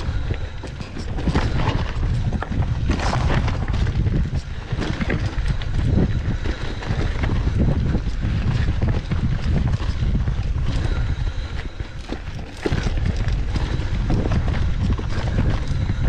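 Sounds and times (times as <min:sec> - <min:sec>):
bike frame rattling: 0:00.0 - 0:16.0
wind buffeting microphone: 0:00.0 - 0:16.0.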